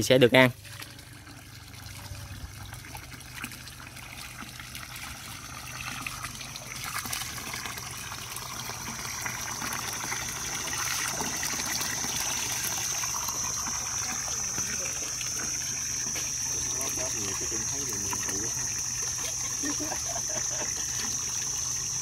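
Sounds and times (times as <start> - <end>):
running water splashing: 0.0 - 22.0.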